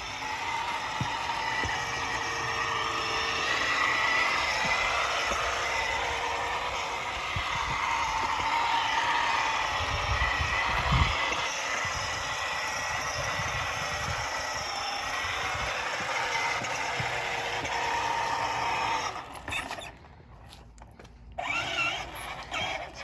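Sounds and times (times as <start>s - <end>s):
electric scooter whirring: 0.0s - 23.0s.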